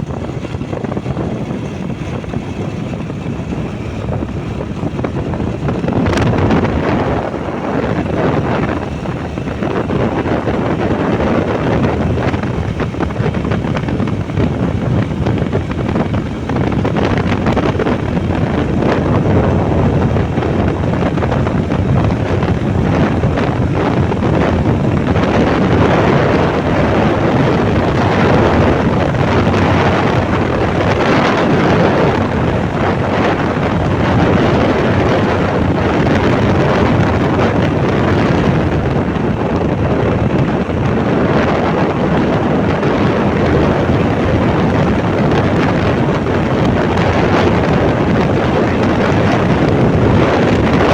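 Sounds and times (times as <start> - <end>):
motorbike running: 0.0 - 50.9
wind buffeting microphone: 0.0 - 50.9.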